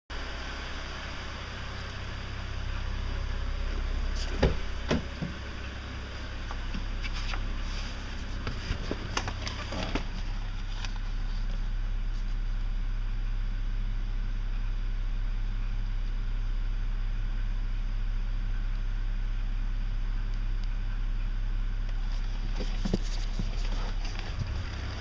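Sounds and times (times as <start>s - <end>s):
car engine knocking and ticking: 0.1s - 25.0s.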